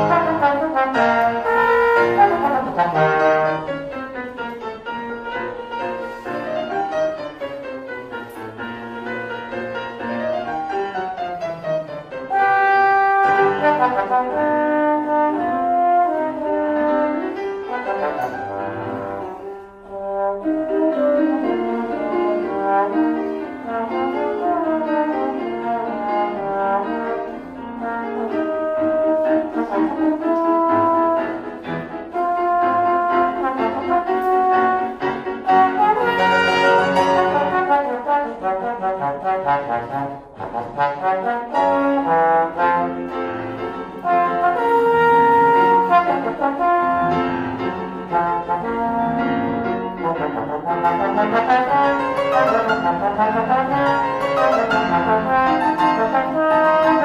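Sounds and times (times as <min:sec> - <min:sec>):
grand piano accompaniment: 0:00.0 - 0:57.0
trombone playing a melody: 0:00.0 - 0:57.0.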